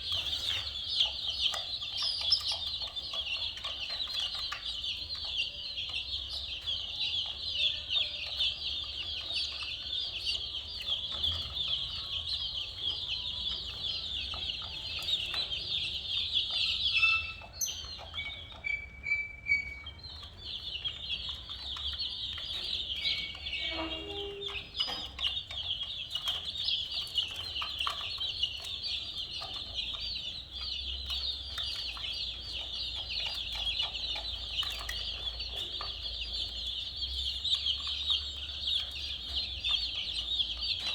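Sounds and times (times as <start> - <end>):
baby chickens peeping: 0.0 - 40.9.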